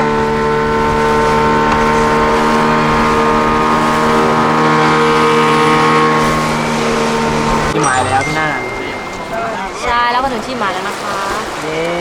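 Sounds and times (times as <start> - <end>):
boat engine humming: 0.0 - 12.0
water noise: 0.0 - 12.0.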